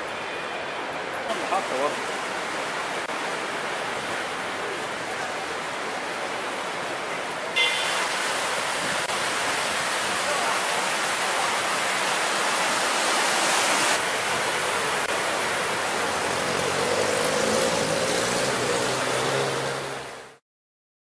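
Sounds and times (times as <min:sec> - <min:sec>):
street ambience hiss: 0:00.0 - 0:20.4.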